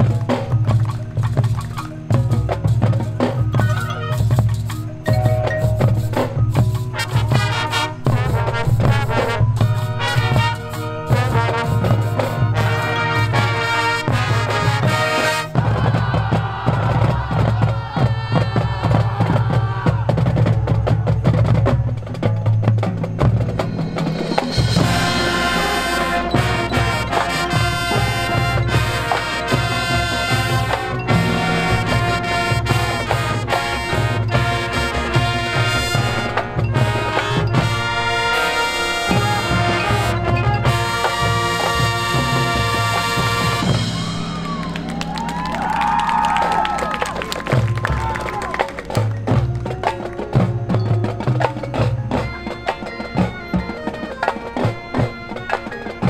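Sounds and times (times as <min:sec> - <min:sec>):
marching band brass: 0:00.0 - 0:56.0
marching drums and percussion: 0:00.0 - 0:56.0.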